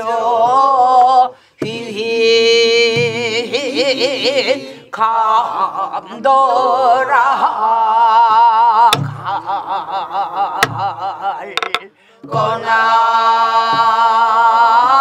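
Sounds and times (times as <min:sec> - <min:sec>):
folk song with heavy vibrato: 0:00.0 - 0:15.0.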